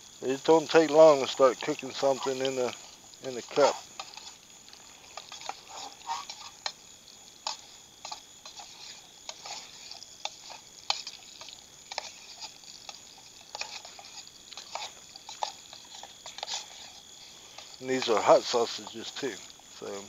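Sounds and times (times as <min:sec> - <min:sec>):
sausage sizzling in oil: 0:00.0 - 0:20.0
metal scraping a cup: 0:00.4 - 0:06.8, 0:07.4 - 0:19.5.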